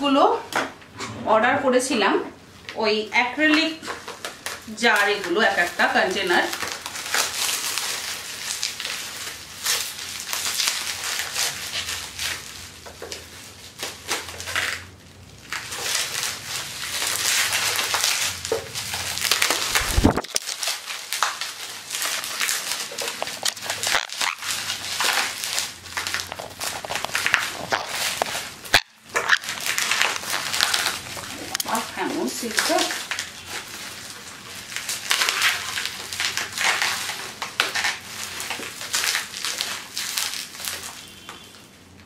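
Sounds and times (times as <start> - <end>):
bubble wrap crinkling: 2.5 - 42.0.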